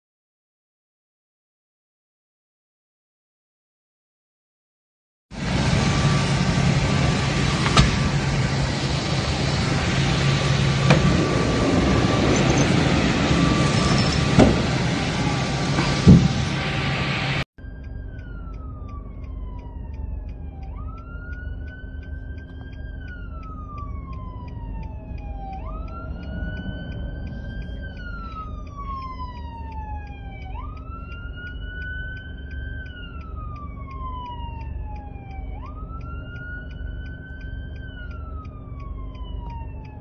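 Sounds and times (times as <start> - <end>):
low rumble: 5.4 - 40.0
siren wailing: 5.4 - 40.0.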